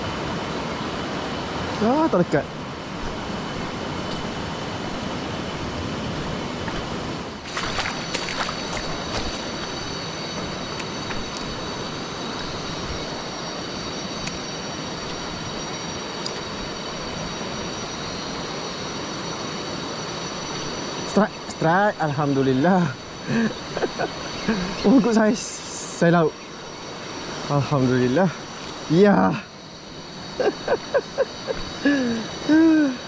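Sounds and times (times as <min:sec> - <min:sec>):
high-pitched whine: 0:00.0 - 0:33.0.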